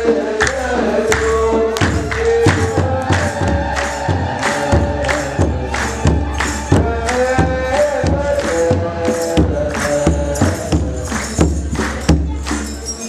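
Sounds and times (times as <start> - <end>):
men chanting a hymn: 0.0 - 12.6
drum beating steady rhythm: 0.0 - 13.0.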